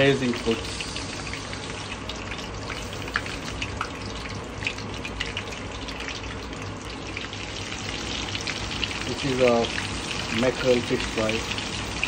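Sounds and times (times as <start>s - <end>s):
fish deep-frying in hot oil: 0.0s - 12.0s.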